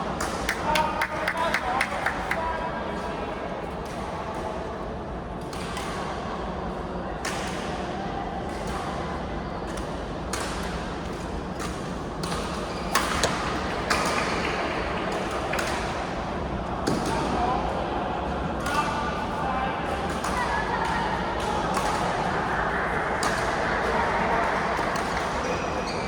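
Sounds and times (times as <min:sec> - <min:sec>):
mix of voices in a hall: 0:00.0 - 0:26.0.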